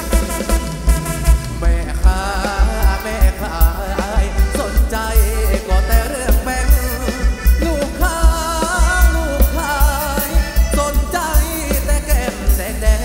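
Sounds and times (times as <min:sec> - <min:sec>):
band dance music over loudspeakers: 0:00.0 - 0:13.0
person singing with vibrato: 0:00.0 - 0:13.0.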